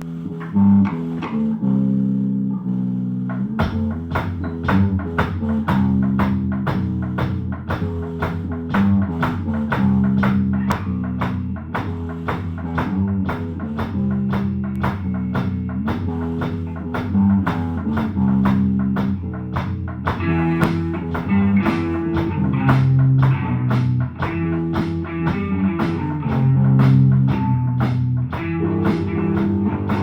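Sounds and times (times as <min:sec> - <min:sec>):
raspy electric guitar: 0:02.5 - 0:30.0
steady drum beat: 0:03.1 - 0:30.0.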